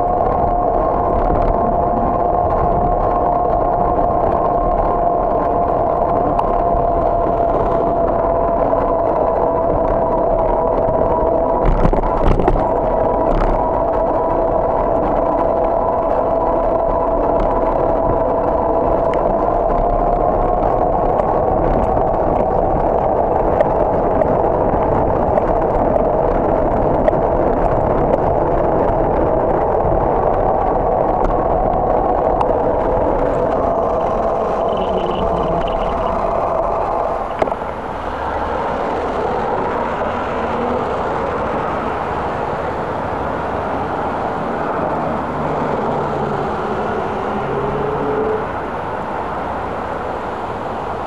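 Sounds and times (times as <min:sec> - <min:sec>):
steady whine: 0:00.0 - 0:51.0
wind and road noise: 0:00.0 - 0:51.0.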